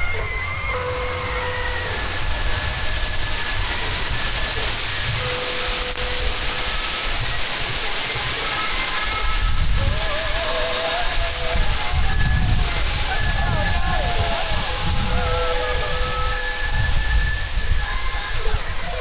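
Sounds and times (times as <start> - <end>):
faint steady tones: 0.0 - 19.0
loud steady hiss: 0.0 - 19.0.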